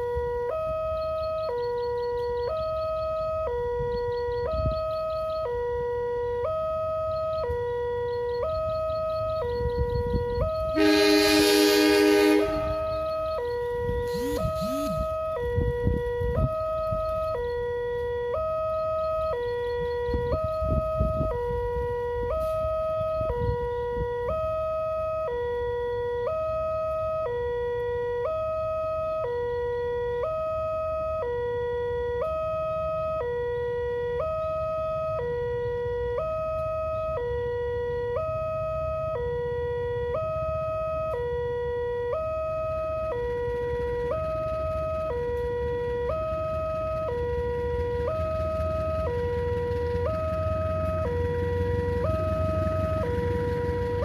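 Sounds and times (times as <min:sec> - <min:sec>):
two-tone level crossing alarm: 0:00.0 - 0:54.0.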